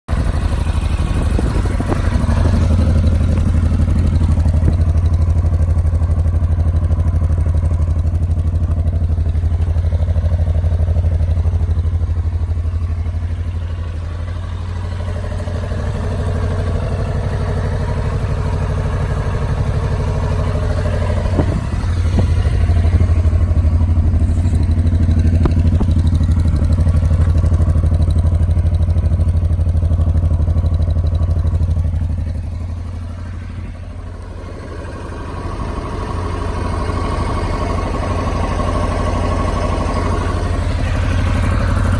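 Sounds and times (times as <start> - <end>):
motorcycle engine idling: 0.1 - 41.9.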